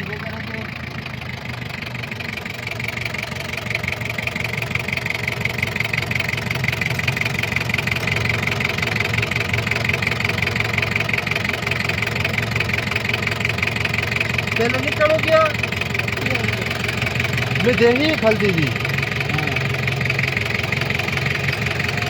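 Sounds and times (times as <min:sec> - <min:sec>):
diesel engine idling clatter: 0:00.0 - 0:22.0.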